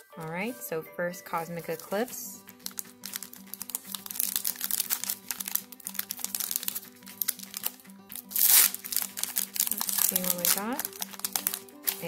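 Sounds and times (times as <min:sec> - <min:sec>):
foil wrapper crinkling and tearing: 0:01.5 - 0:12.0.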